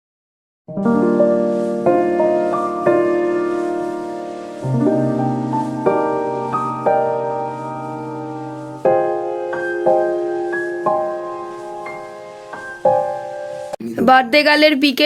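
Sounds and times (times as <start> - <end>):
soft piano music: 0.7 - 13.8.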